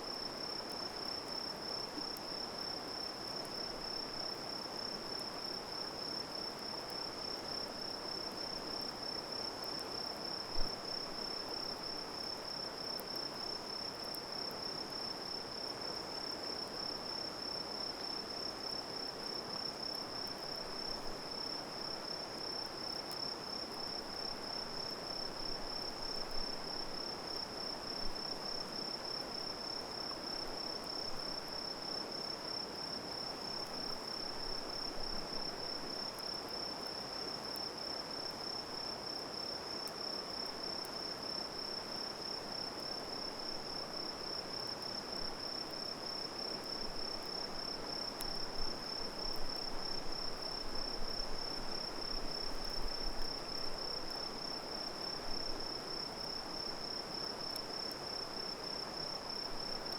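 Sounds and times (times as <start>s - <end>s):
faint campfire crackles: 0.0s - 59.9s.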